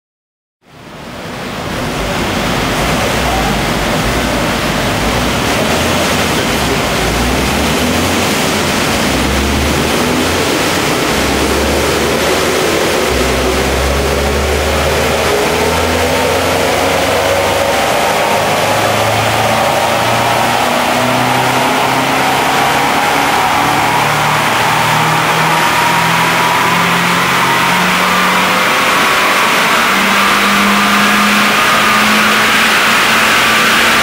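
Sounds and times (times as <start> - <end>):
loud steady rushing noise: 0.7 - 34.0
car engine revving under load: 1.1 - 34.0.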